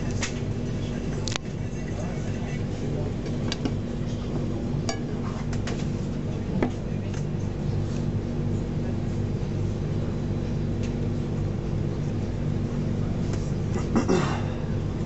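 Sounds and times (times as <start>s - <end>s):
train hum inside carriage: 0.0s - 15.0s.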